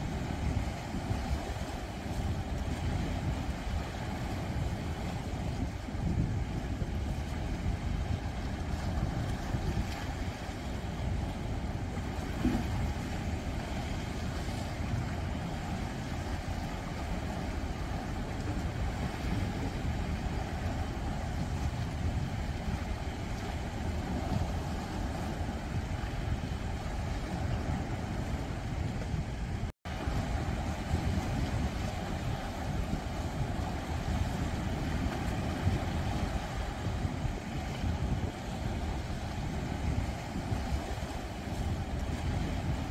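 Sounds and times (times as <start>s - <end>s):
waves washing over rocks: 0.0s - 42.9s
wind rumbling on microphone: 0.0s - 42.9s.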